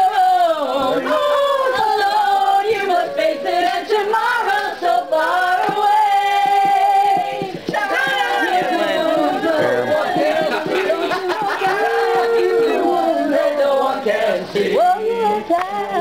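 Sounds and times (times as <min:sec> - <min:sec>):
group of people singing: 0:00.0 - 0:16.0.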